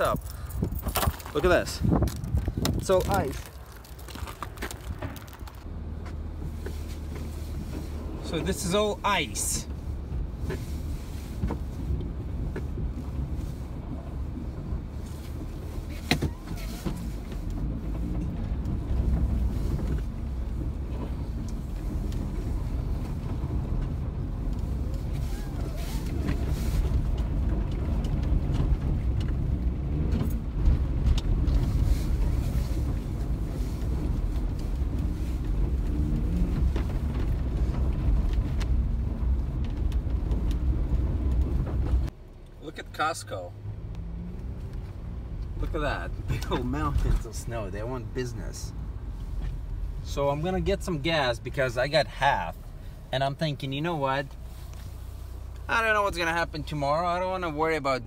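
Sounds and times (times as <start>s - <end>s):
engine and tyres rumbling: 0.0s - 58.0s.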